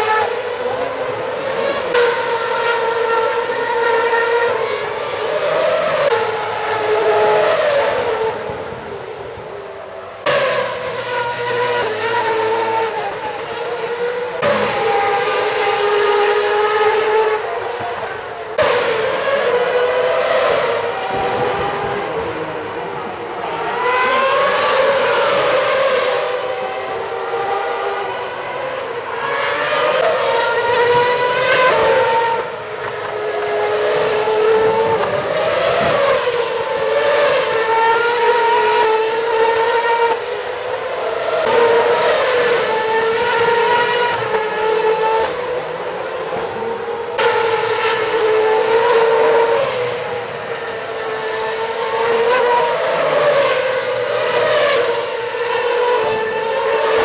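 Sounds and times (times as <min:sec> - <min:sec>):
racing cars accelerating past: 0:10.2 - 0:57.0.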